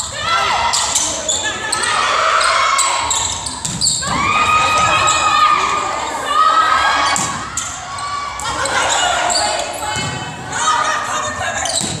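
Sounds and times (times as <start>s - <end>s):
high-pitched voices shouting and cheering: 0.0s - 11.8s.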